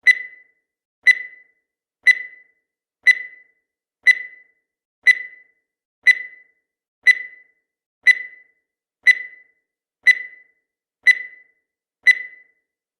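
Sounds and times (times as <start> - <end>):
timer ticks: 0.0 - 12.7.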